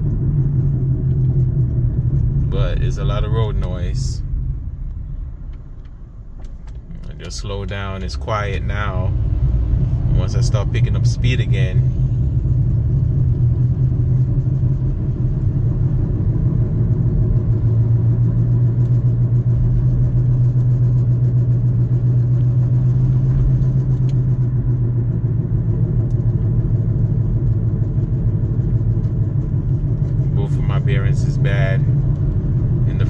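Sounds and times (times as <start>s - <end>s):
road noise: 0.0s - 33.0s.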